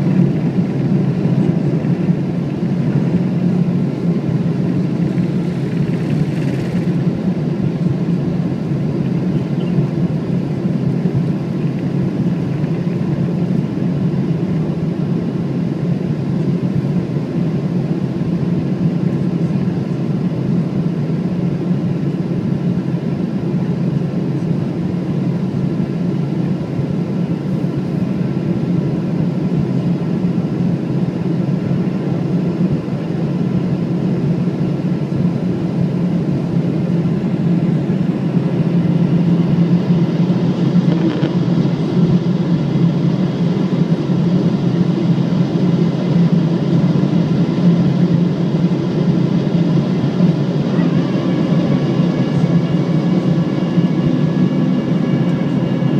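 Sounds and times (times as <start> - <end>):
aircraft cabin engine rumble: 0.0 - 55.9
faint steady whining tones: 0.0 - 55.9.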